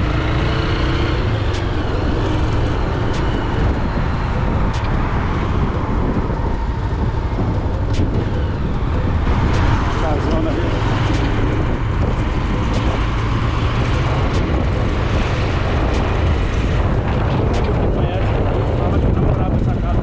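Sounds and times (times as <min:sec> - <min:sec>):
vehicle road noise rumble: 0:00.0 - 0:20.0.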